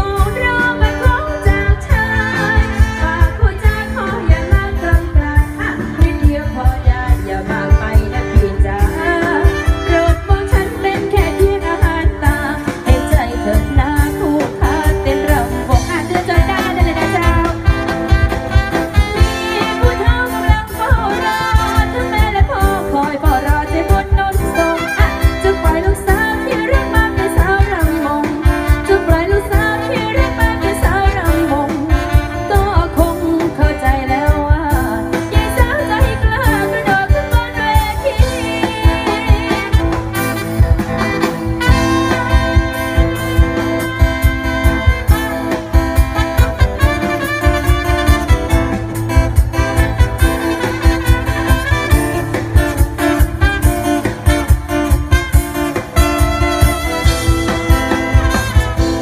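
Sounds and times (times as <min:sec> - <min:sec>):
fast drum beat: 0:00.0 - 0:59.0
live band with singer: 0:00.0 - 0:59.0.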